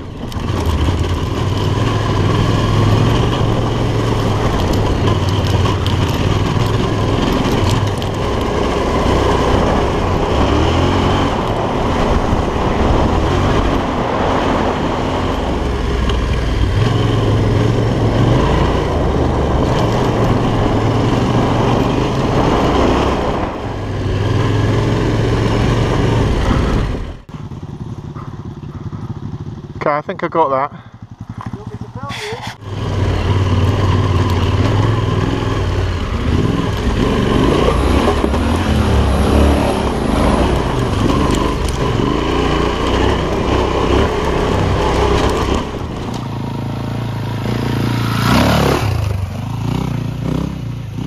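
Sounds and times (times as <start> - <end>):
motorcycle engine running: 0.0 - 51.0
riding noise: 0.0 - 51.0.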